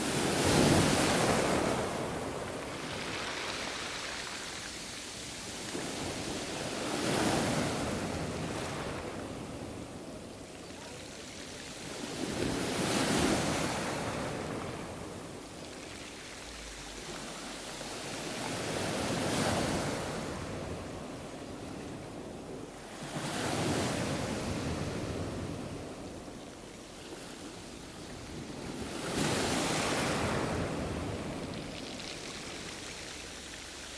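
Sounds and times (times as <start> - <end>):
waves breaking on shore: 0.0 - 22.2, 27.0 - 33.9
wind: 0.0 - 33.9.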